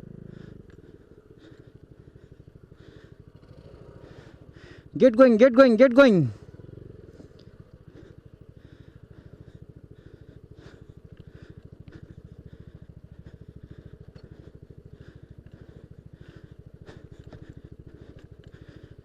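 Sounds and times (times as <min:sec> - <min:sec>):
scooter engine chugging: 0:00.0 - 0:19.0.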